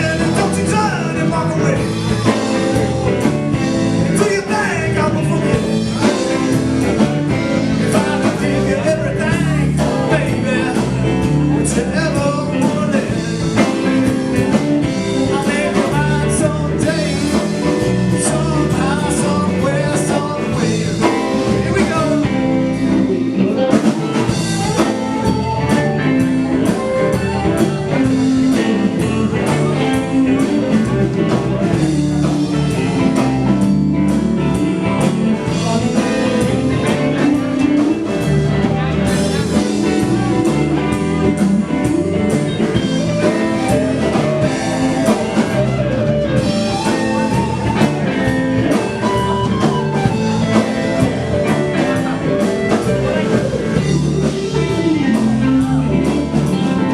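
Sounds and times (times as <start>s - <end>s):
live blues band playing: 0.0s - 56.9s
person singing: 0.0s - 56.9s.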